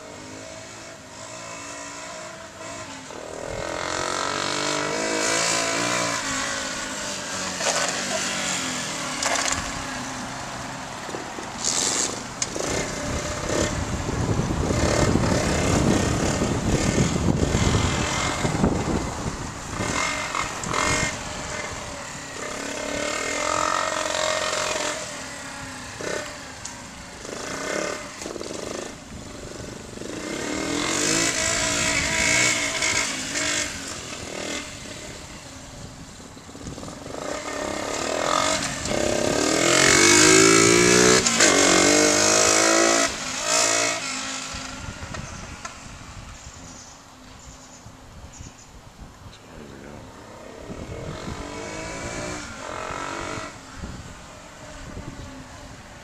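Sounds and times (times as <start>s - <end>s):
dirt bike engine revving past: 0.0s - 10.8s, 11.6s - 35.7s, 36.6s - 47.0s, 50.1s - 55.6s.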